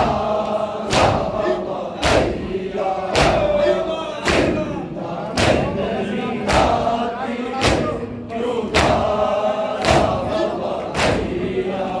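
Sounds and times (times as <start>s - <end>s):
crowd beating chests: 0.0s - 5.8s, 6.4s - 8.1s, 8.7s - 11.6s
men chanting together: 0.0s - 12.0s.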